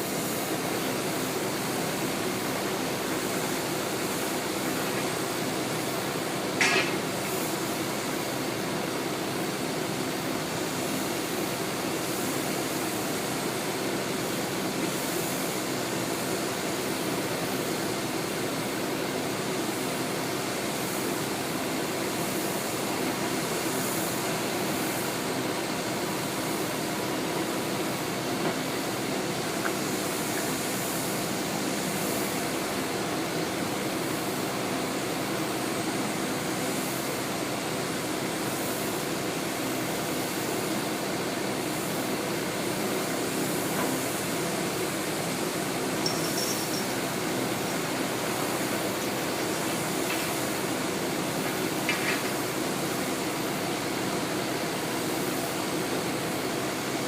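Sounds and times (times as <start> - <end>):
mechanical rumble and hiss: 0.0 - 57.0.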